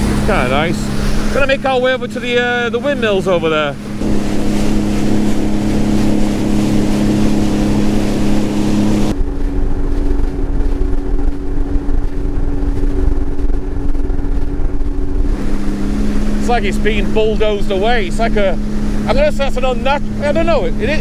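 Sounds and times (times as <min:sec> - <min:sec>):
jet ski engine running: 0:00.0 - 0:21.0.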